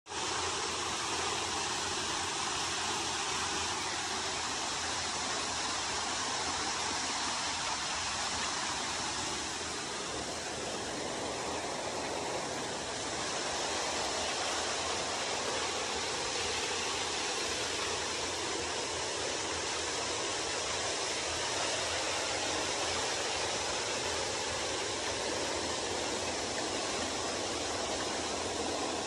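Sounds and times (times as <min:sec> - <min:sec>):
shallow river water rushing: 0:00.1 - 0:29.0
waterfall: 0:00.1 - 0:29.0.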